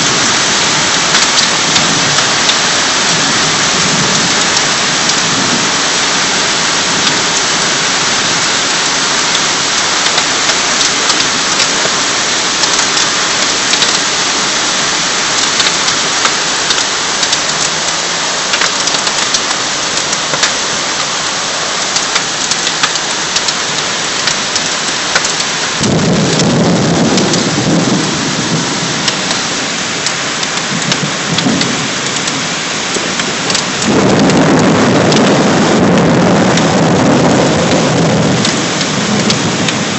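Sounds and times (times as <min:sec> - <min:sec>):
deep rumble: 0:00.0 - 0:39.9
heavy rain pouring: 0:00.0 - 0:39.9
rain drop impacts: 0:00.0 - 0:39.9.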